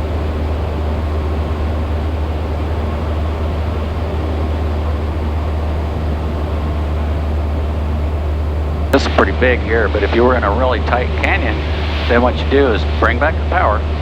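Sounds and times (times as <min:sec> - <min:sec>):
airplane engine drone in cabin: 0:00.0 - 0:14.0.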